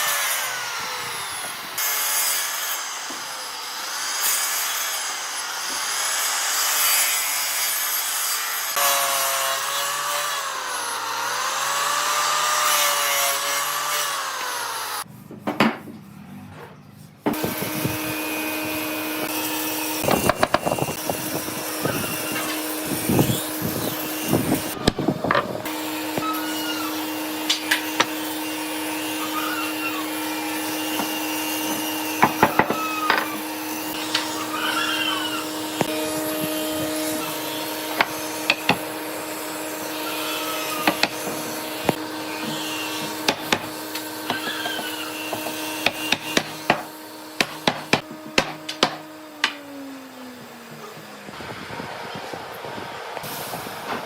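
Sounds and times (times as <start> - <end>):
power tool motor whine: 0.0 - 15.1, 17.3 - 54.0.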